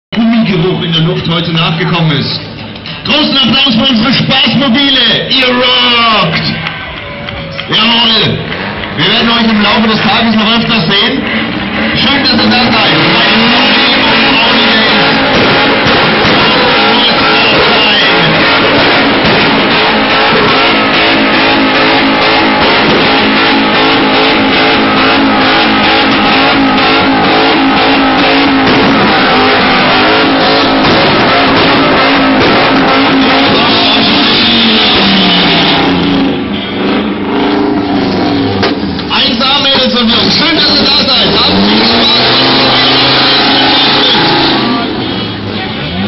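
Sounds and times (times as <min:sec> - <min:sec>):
car engine revving high: 0:07.8 - 0:46.0.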